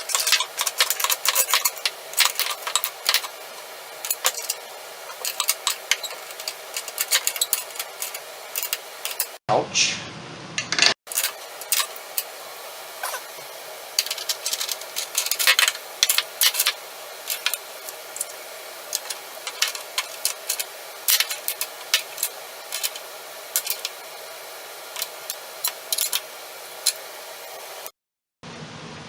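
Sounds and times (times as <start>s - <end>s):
steady hiss: 0.0s - 9.4s, 11.1s - 27.9s.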